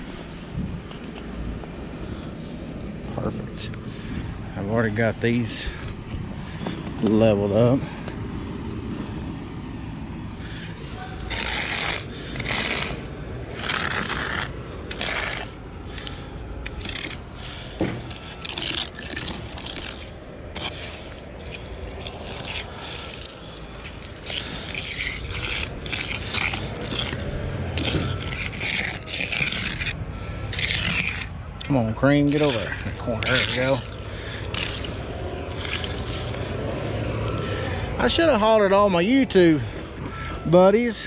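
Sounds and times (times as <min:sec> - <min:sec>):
steady low rumble: 0:00.0 - 0:41.0
edger scraping wet concrete: 0:02.0 - 0:05.9, 0:07.0 - 0:07.8, 0:09.8 - 0:41.0.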